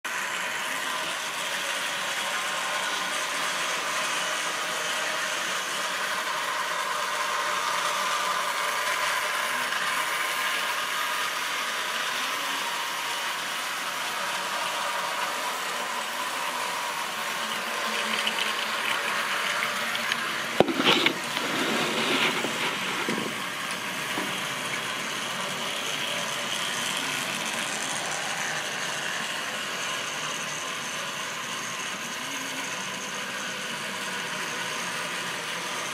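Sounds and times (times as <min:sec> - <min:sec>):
model train motors whirring: 0:00.1 - 0:35.9.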